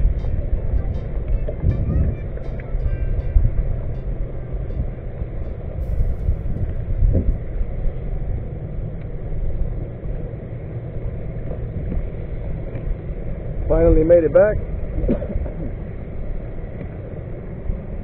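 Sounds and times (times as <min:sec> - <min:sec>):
water noise from kayak: 0:00.0 - 0:18.0
wind buffeting microphone: 0:00.0 - 0:18.0.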